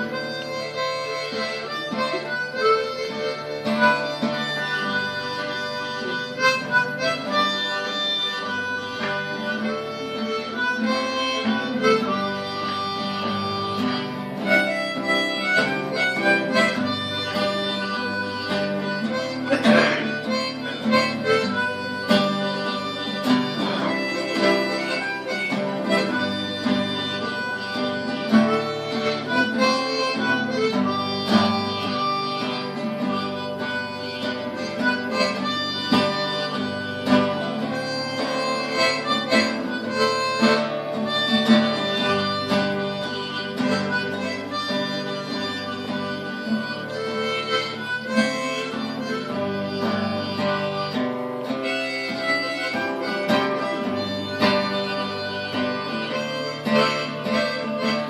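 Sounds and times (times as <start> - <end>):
guitar strumming: 0.0 - 58.0
harmonica playing a melody: 0.0 - 58.0.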